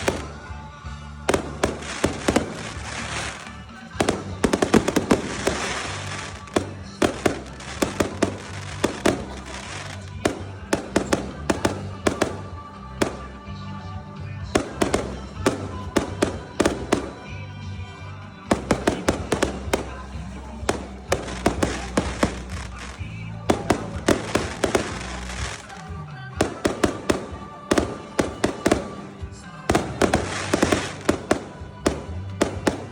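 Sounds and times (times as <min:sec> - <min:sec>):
fireworks bangs and crackles: 0:00.0 - 0:32.9
music with deep bass: 0:00.0 - 0:32.9.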